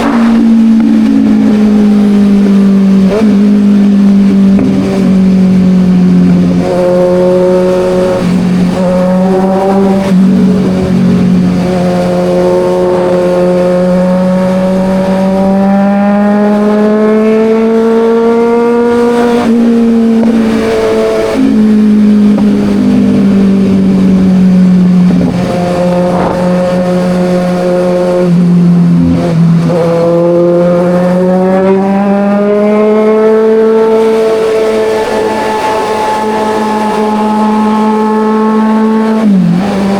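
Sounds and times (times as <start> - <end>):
motorcycle engine revving through gears: 0.0 - 39.9
wind and road noise: 0.0 - 39.9.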